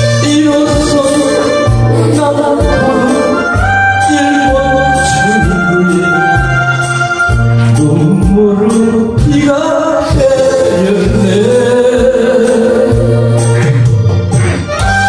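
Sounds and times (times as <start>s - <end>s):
backing track with beat and bass: 0.0s - 15.0s
man singing into microphone: 0.0s - 15.0s.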